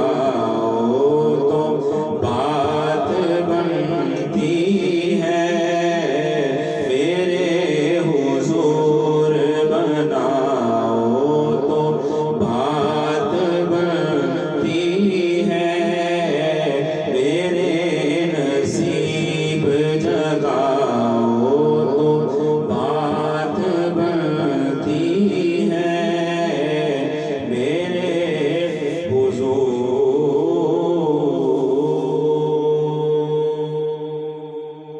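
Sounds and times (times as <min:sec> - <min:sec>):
man singing into a microphone: 0:00.0 - 0:34.9.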